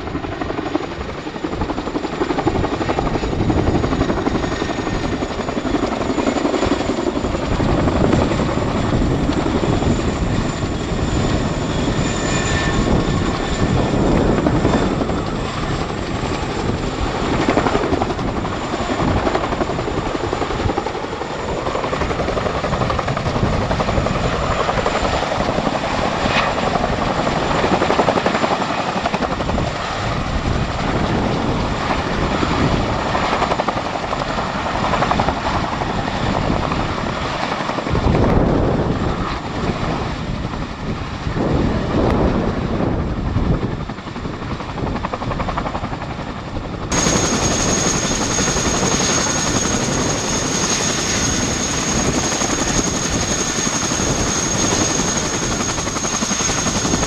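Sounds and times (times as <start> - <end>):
helicopter flying low past: 0.0 - 57.0.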